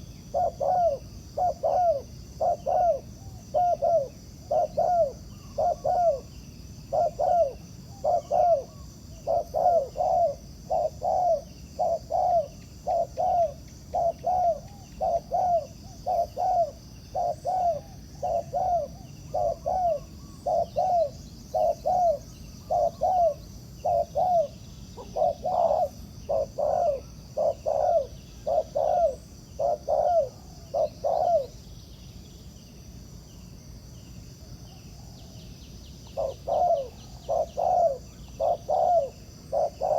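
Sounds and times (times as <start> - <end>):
dove cooing: 0.0 - 6.3, 6.9 - 31.6, 36.0 - 39.9.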